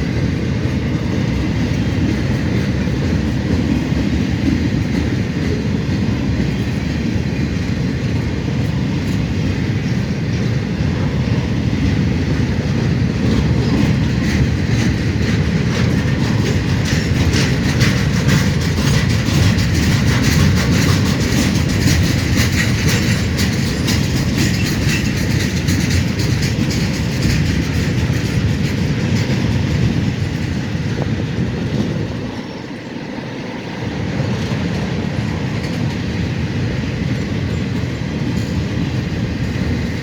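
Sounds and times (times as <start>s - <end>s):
steel wheels rumbling on rail: 0.0s - 40.0s
wheels clicking over rail joints: 0.0s - 40.0s.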